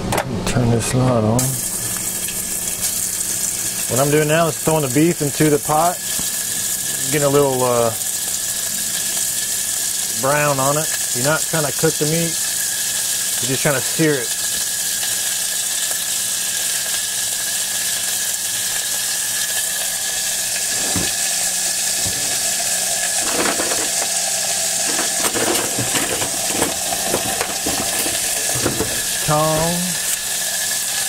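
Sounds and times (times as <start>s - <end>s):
meat sizzling in oil: 1.4s - 31.0s.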